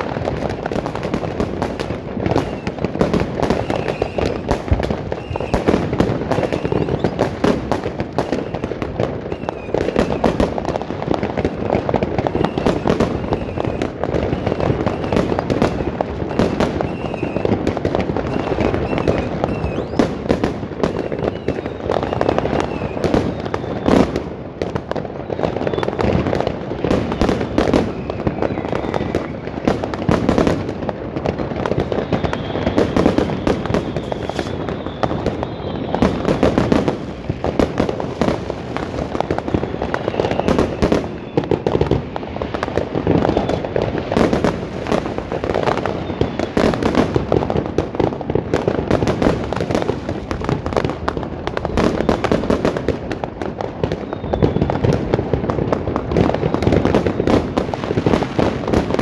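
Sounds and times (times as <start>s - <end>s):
fireworks and firecrackers banging: 0.0s - 59.0s.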